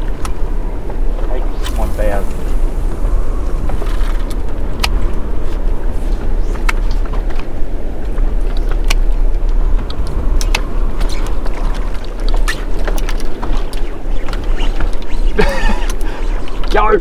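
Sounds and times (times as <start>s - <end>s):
water noise around boat: 0.0s - 17.0s
wind rumbling on microphone: 0.0s - 17.0s.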